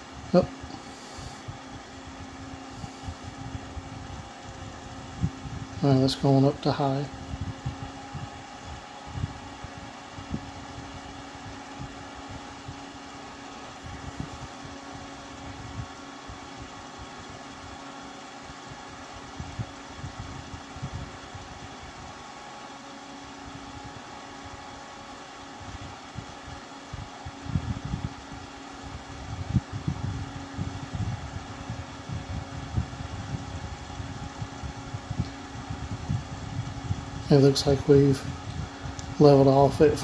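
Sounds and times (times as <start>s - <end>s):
computer fan whirring: 0.0s - 40.0s.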